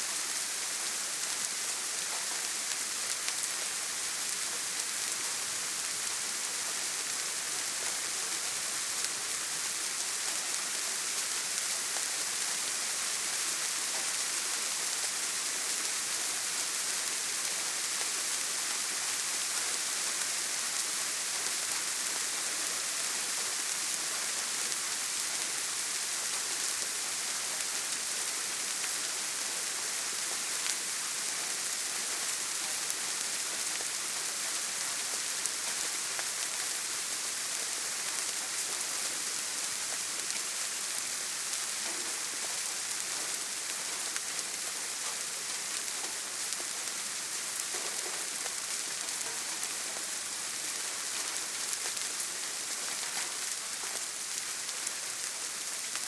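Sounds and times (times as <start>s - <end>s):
rain on a tin roof: 0.0s - 56.0s.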